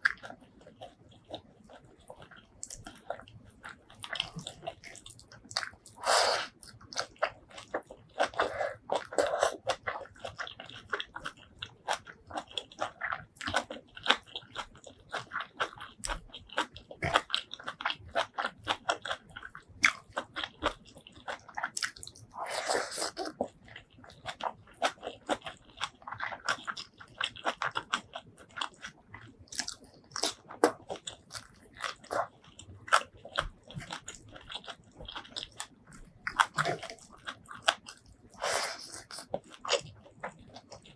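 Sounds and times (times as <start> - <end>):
person chewing and biting food: 0.0 - 40.9.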